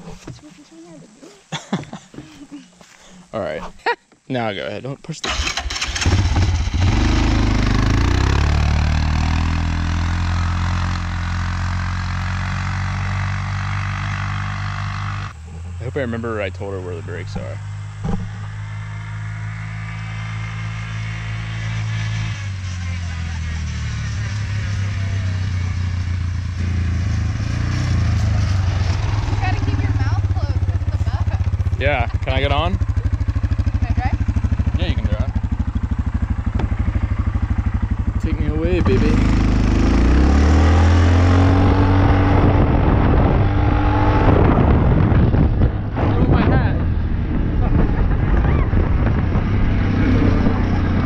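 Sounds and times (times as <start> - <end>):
atv engine running: 5.2 - 51.0.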